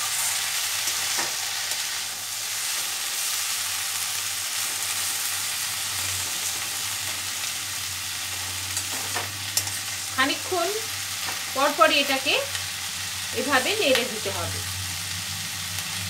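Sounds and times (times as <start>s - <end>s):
vegetables frying in oil: 0.0s - 16.0s.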